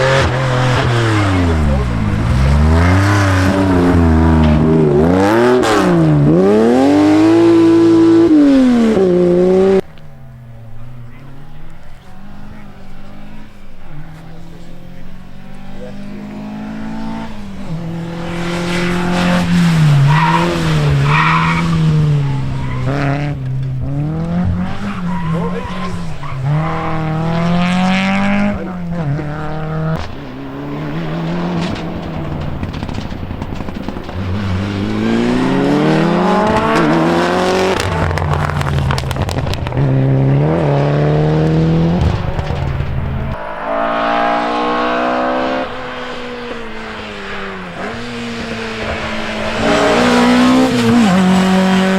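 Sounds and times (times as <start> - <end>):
rally car engines revving hard: 0.0 - 51.9.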